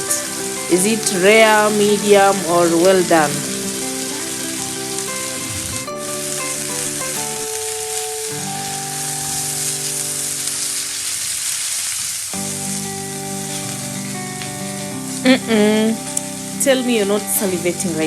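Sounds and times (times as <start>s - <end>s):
soft background music: 0.0s - 10.6s, 12.4s - 18.0s
steaks sizzling in pan: 0.0s - 18.0s.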